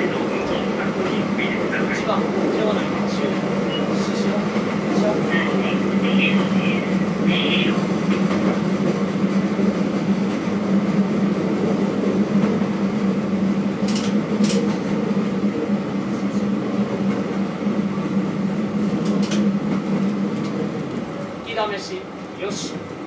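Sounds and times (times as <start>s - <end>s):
wheels rumbling on rails: 0.0s - 21.5s
railcar engine drone: 0.0s - 23.0s.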